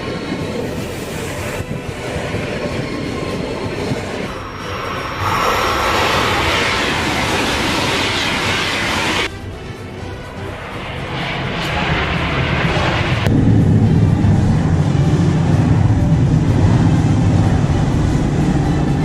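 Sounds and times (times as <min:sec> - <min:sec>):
loud rushing noise: 0:00.0 - 0:09.3, 0:10.3 - 0:19.0
high-speed train rumbling on rails: 0:00.0 - 0:19.0.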